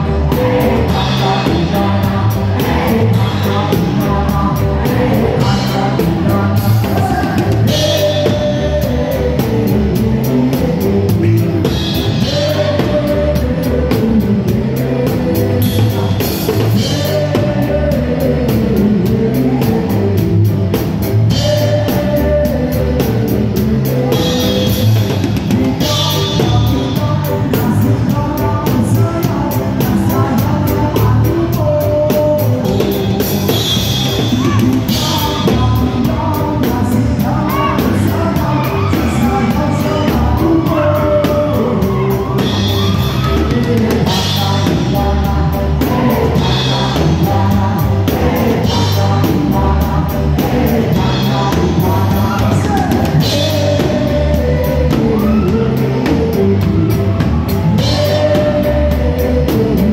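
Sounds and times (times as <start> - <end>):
drum kit beat: 0.0 - 59.9
live band music: 0.0 - 59.9
person singing: 0.0 - 59.9.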